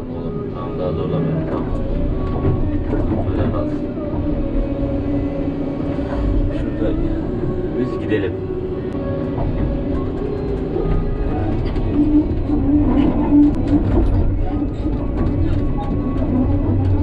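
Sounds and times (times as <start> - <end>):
droning tone: 0.0 - 17.0
excavator engine and hydraulics: 0.0 - 17.0.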